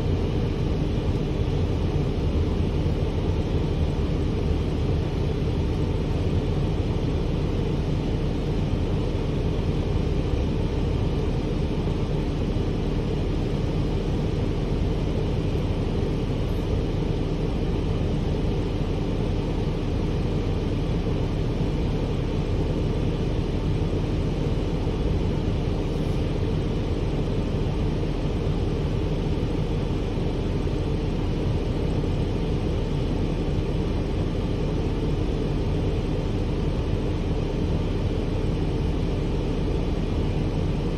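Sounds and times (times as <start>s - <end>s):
bus engine idling: 0.0s - 40.9s.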